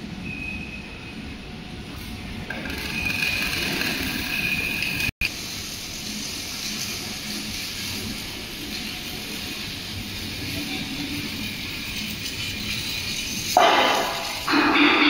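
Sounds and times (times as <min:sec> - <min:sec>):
hissing factory workshop noise: 0:00.0 - 0:15.0.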